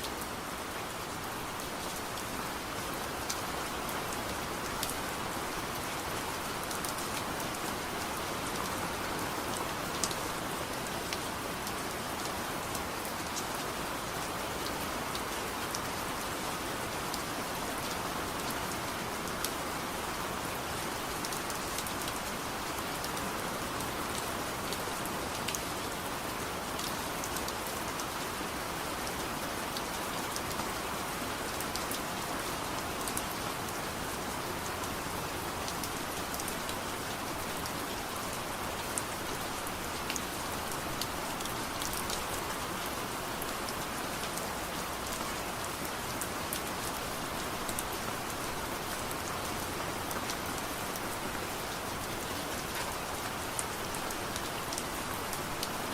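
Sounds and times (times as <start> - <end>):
soft rain hiss: 0.0 - 55.9.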